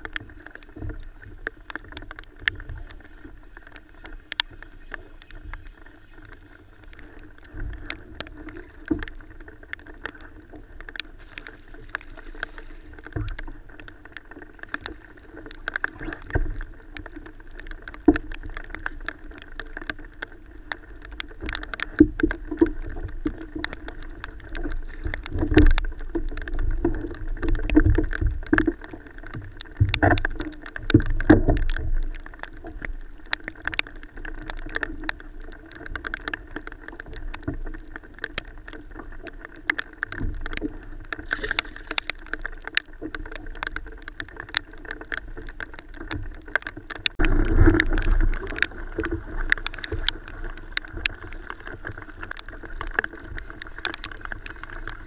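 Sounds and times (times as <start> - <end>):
sharp ticks: 6.9 - 55.0.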